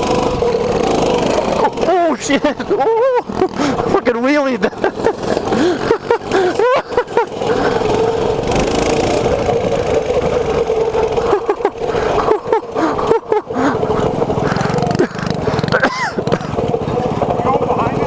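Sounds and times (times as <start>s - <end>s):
mini bike engine revving: 0.0s - 18.0s.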